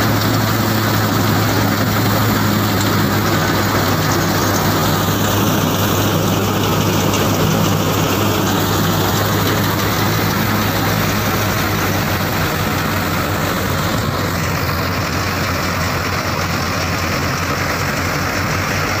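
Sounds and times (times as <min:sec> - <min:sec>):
reaper cutters and blower whirring: 0:00.0 - 0:19.0
tractor diesel engine running: 0:00.0 - 0:19.0.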